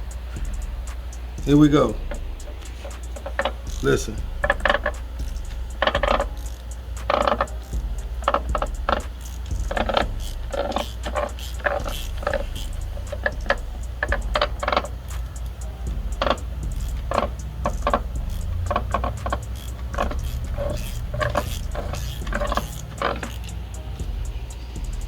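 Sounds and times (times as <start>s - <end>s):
metallic clicking and clanking: 0.0s - 25.0s
steady low hum: 0.0s - 25.0s.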